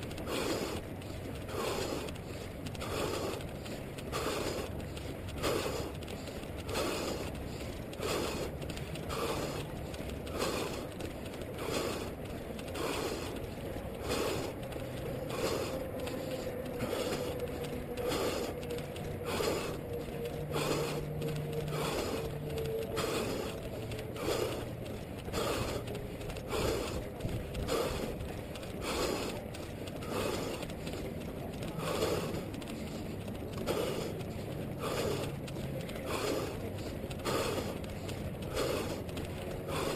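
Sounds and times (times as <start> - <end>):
muffled rhythmic thumping: 0.0 - 39.9
runner breathing hard: 0.0 - 39.9
steady low rumble: 0.0 - 39.9.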